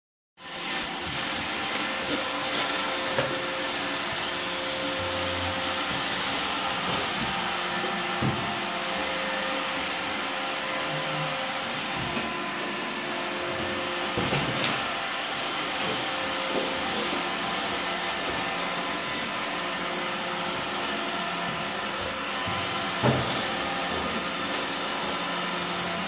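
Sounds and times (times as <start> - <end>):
robot vacuum running: 0.4 - 26.0.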